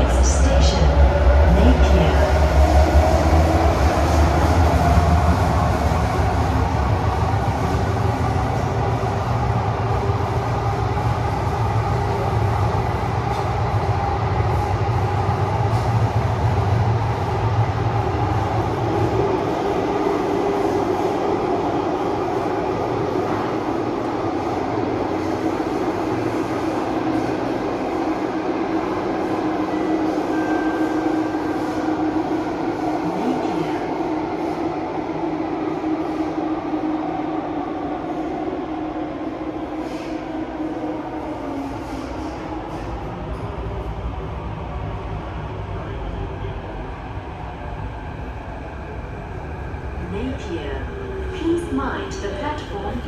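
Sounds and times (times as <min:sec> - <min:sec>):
train wheels and motors rumbling: 0:00.0 - 0:53.0.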